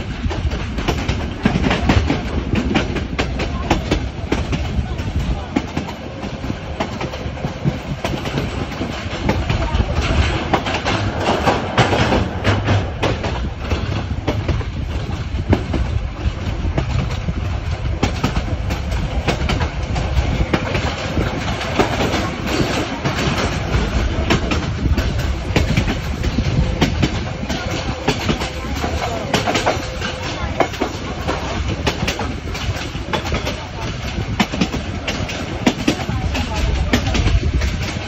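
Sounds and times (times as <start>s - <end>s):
train carriage rumble and rattle: 0.0s - 38.0s
wheels clicking over rail joints: 0.0s - 38.0s.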